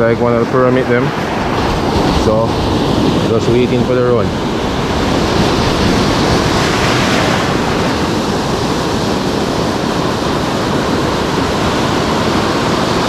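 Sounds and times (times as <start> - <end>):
surf rushing on reef: 0.0 - 13.0
wind buffeting microphone: 0.0 - 13.0.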